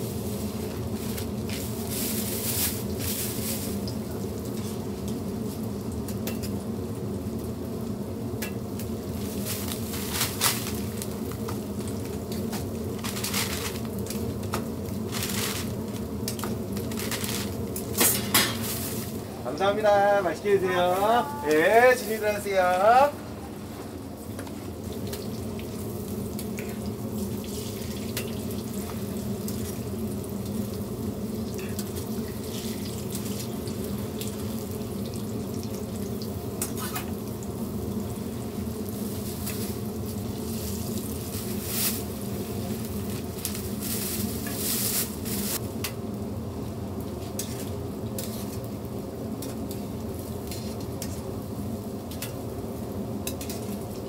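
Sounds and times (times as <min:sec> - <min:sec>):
food sizzling on a griddle: 0:00.0 - 0:54.0.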